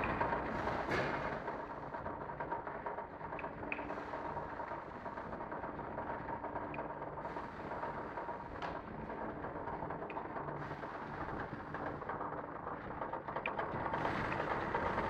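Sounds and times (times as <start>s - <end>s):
low machine rumble: 0.0s - 15.0s.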